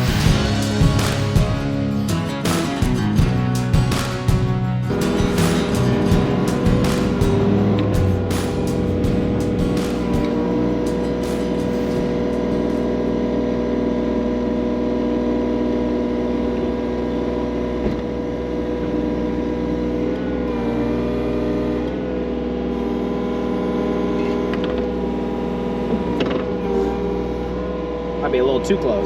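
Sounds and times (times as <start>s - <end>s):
skid loader engine running: 0.0s - 28.9s.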